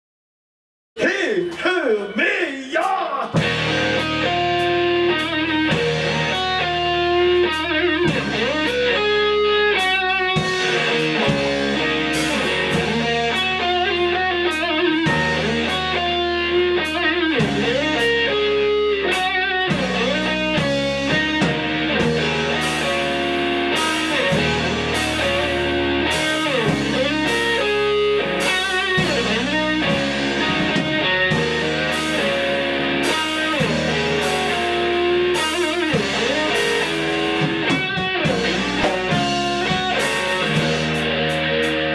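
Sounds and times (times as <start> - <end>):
bass notes: 1.0 - 41.9
drums and cymbals: 1.0 - 41.9
electric guitar riff: 1.0 - 41.9.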